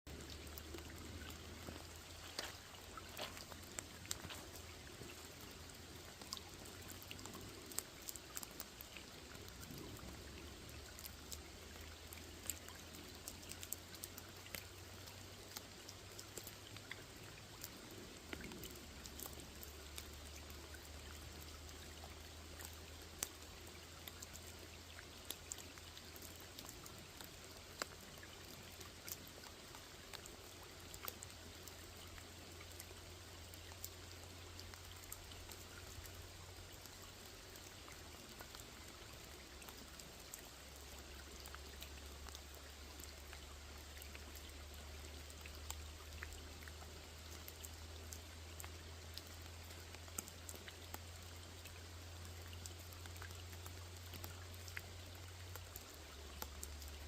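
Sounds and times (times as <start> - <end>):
low steady rumble: 0.0 - 57.0
rain pattering on pond: 0.0 - 57.0.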